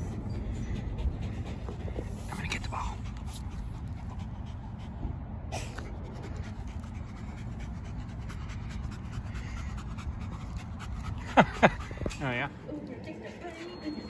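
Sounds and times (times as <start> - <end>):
dog panting: 0.0 - 14.0
steady low rumble: 0.0 - 14.0.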